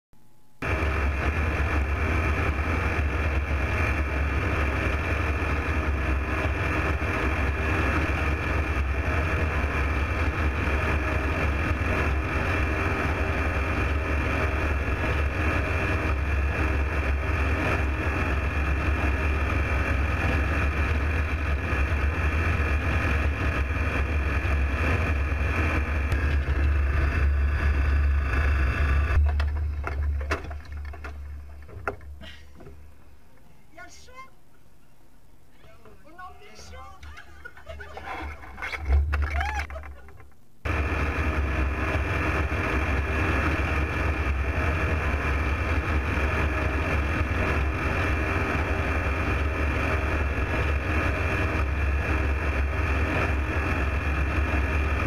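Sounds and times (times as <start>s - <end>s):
aeroplane engine droning: 0.6s - 33.4s, 40.6s - 55.0s.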